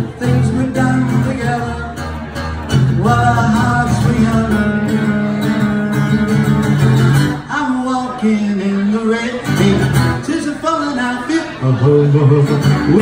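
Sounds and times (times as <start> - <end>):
acoustic guitar strumming: 0.0 - 13.0
man singing: 0.0 - 13.0.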